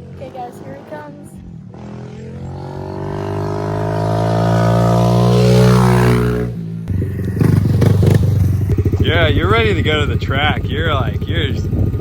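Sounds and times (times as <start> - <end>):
dirt bike engine passing: 0.0 - 12.0.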